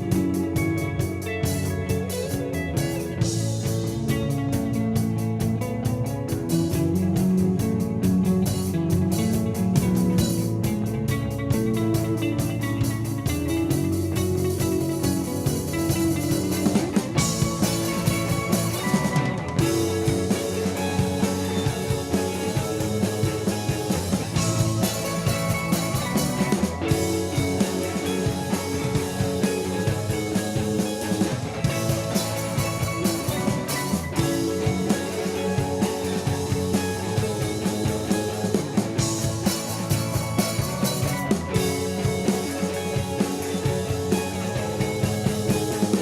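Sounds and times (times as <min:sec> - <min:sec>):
drums keeping a beat: 0:00.0 - 0:46.0
guitar-led rock band: 0:00.0 - 0:46.0.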